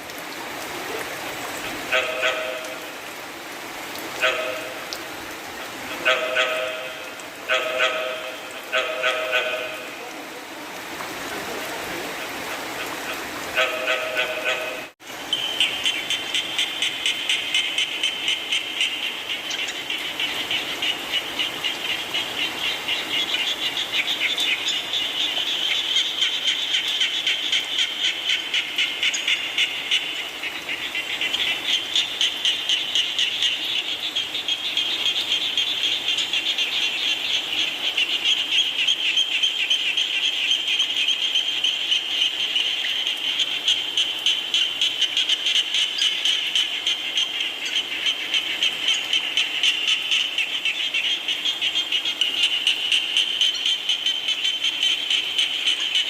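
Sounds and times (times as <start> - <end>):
chorus of frogs calling: 4.2 - 4.8, 5.4 - 10.1, 11.4 - 56.0.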